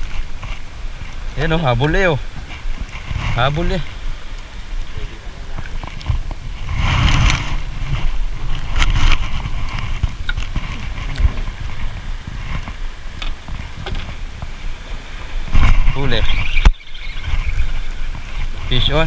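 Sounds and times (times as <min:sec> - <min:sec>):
water lapping at boat: 0:00.0 - 0:19.0
wind rumbling on microphone: 0:00.0 - 0:19.0.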